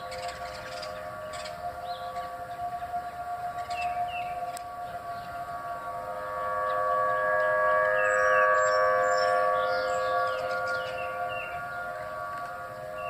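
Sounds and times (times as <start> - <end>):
siren-like drone: 0.0 - 13.0.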